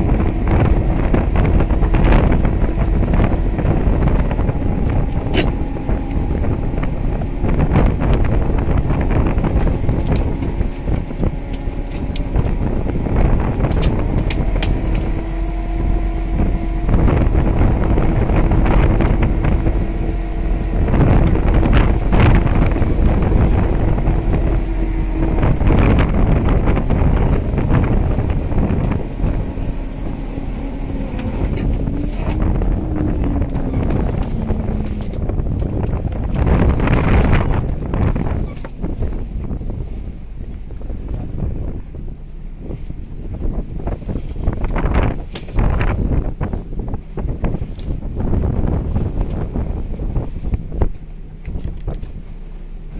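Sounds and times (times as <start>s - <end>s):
boat engine running: 0.0s - 52.9s
wind buffeting microphone: 0.0s - 52.9s.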